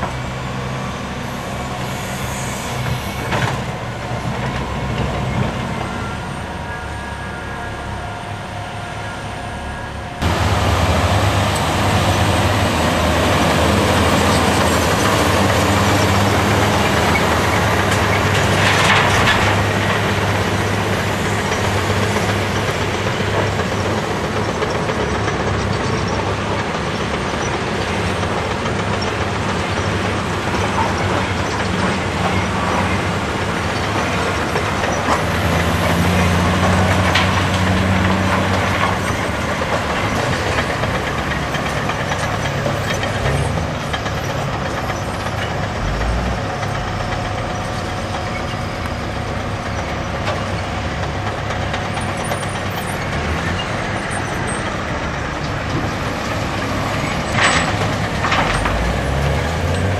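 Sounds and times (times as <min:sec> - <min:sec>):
diesel engines running: 0:00.0 - 0:59.9
dump trucks driving on gravel: 0:00.0 - 0:59.9.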